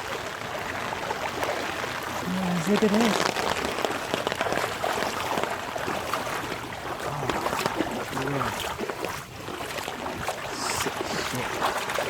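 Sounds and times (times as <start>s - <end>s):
wading through splashing water: 0.0s - 12.0s.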